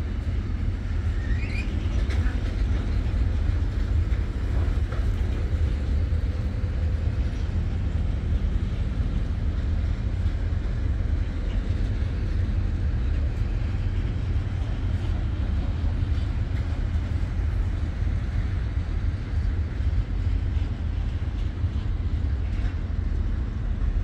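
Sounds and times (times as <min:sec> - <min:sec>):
freight train wagons rumbling: 0:00.0 - 0:24.0.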